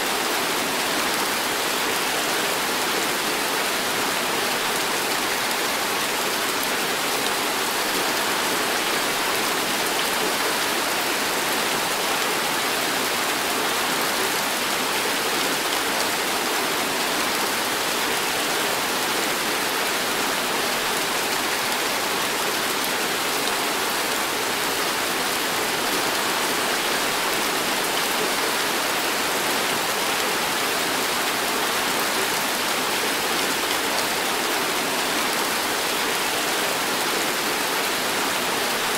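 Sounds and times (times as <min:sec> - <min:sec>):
heavy rain on pavement: 0:00.0 - 0:38.9.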